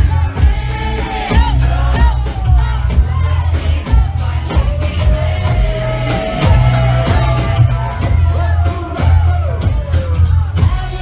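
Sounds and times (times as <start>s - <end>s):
bass and drum beat: 0.0s - 11.0s.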